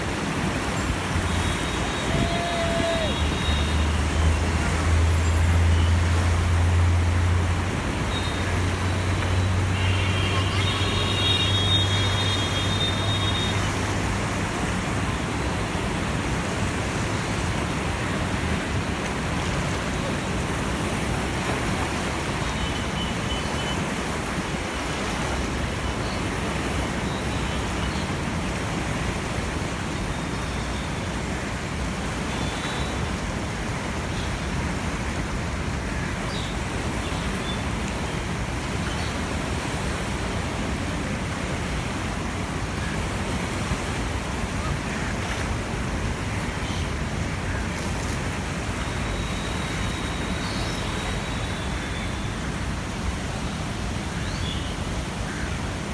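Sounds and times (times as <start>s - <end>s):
water roaring through barrage: 0.0s - 55.9s.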